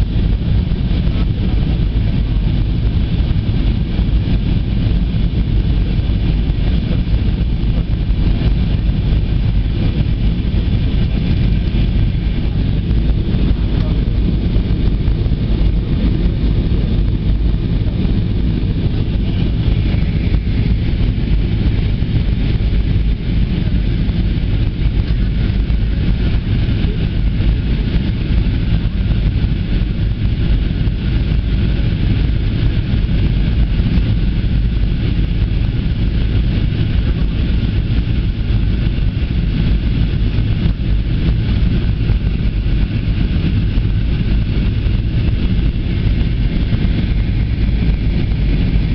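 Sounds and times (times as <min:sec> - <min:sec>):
airplane cabin rumble: 0:00.0 - 0:48.9.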